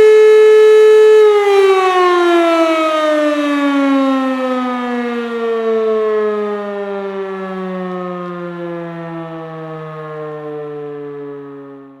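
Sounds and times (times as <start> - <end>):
air raid siren winding down: 0.0 - 12.0.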